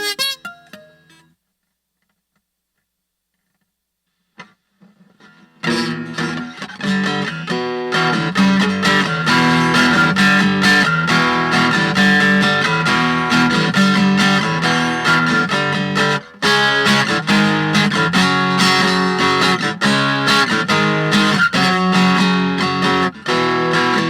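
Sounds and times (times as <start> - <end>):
acoustic guitar strummed chords: 0.0 - 1.3, 5.2 - 24.0.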